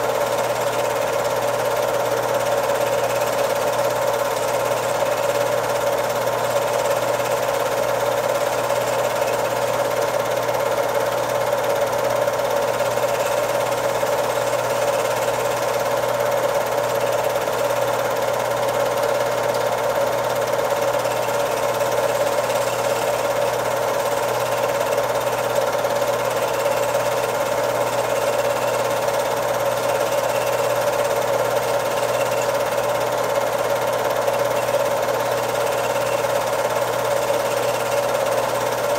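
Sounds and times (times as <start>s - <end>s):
film projector clattering: 0.0s - 38.9s.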